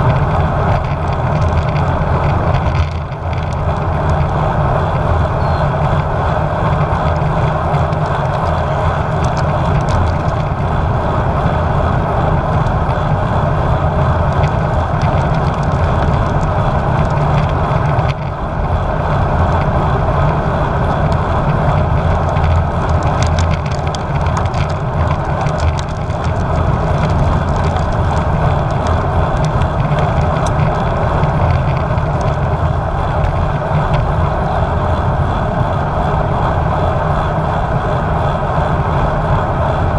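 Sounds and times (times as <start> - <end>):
road noise: 0.0 - 39.9
wind rush on microphone: 0.0 - 39.9.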